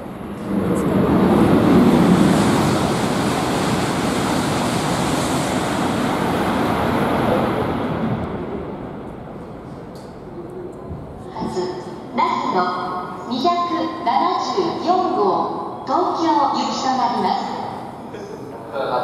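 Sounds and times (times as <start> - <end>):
high-speed train passing: 0.0 - 19.0.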